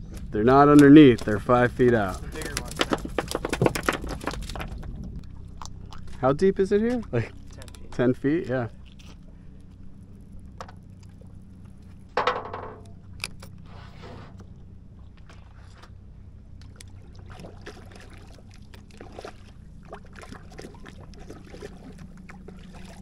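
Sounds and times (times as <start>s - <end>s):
low hum: 0.0s - 23.0s
water sloshing and splashing: 0.0s - 23.0s.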